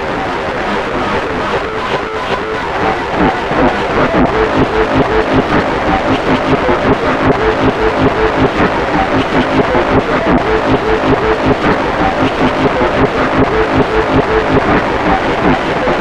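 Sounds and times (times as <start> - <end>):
loud music with fast pulsing beat: 0.0 - 16.0.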